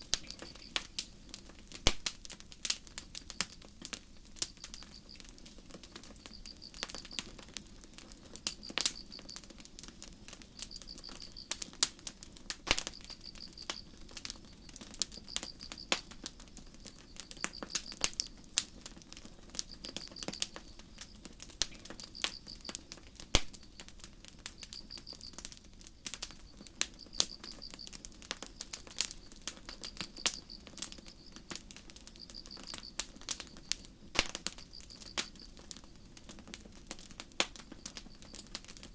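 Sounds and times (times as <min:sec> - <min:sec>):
crickets chirping: 0:00.0 - 0:01.0, 0:04.4 - 0:12.0, 0:12.7 - 0:36.2, 0:37.5 - 0:38.9
campfire crackling and popping: 0:00.0 - 0:38.9.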